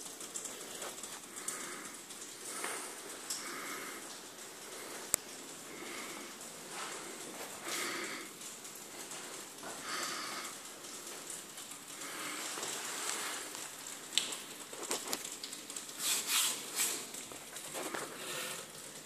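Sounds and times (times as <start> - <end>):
wood fire crackling and hissing: 0.0 - 19.0.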